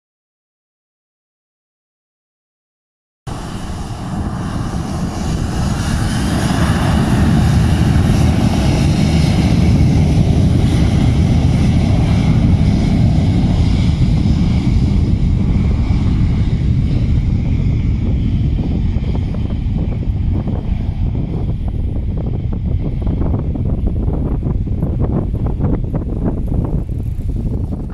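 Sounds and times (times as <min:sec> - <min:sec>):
jet engines running loud: 0:03.3 - 0:27.9
wind buffeting microphone: 0:03.3 - 0:27.9.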